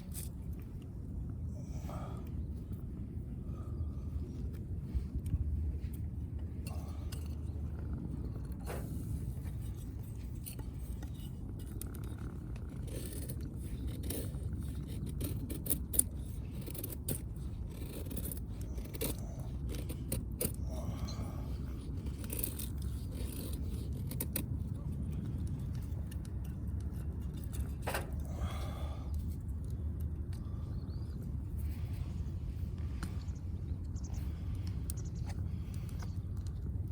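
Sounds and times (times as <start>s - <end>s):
low rumble of fire: 0.0s - 36.9s.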